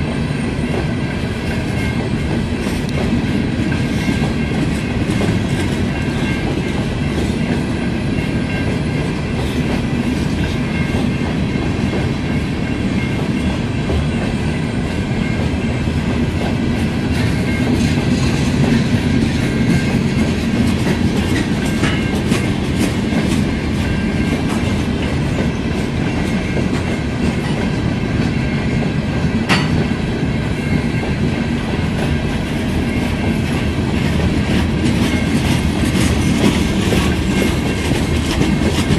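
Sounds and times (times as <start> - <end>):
freight train wheels clickety-clack: 0.0 - 38.9.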